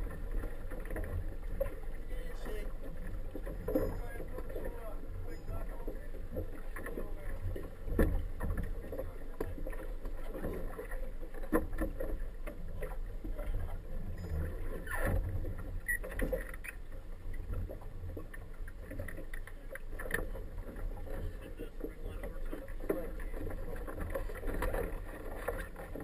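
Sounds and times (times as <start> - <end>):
boat engine low rumble: 0.0 - 26.0
knocks and clunks against dock: 0.0 - 26.0.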